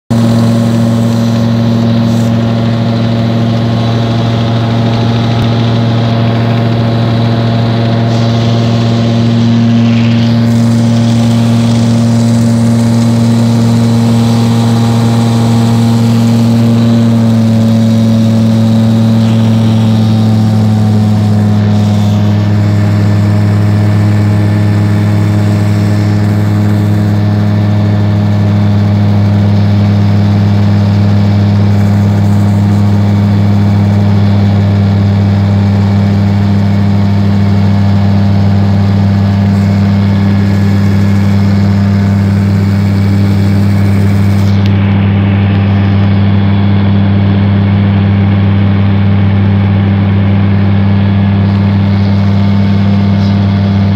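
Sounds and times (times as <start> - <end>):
aircraft engine and propeller drone: 0.1 - 53.9.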